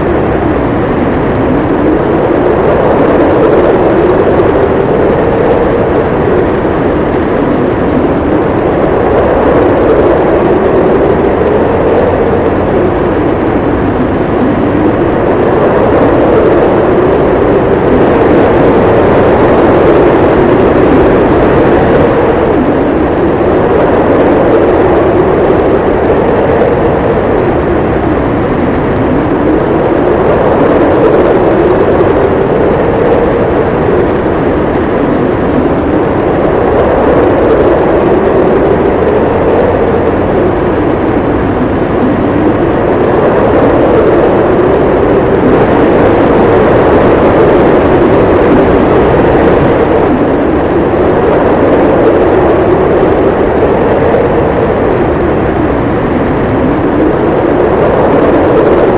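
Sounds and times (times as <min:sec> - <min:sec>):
howling blizzard wind: 0:00.0 - 0:58.9.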